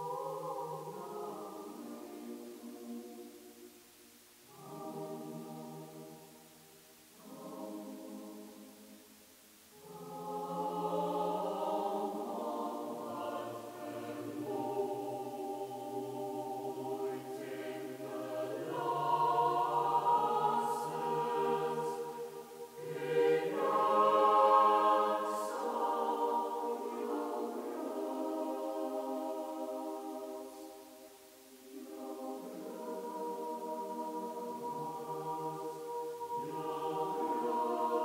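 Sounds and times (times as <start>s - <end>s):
choir singing long chords: 0.0s - 38.0s.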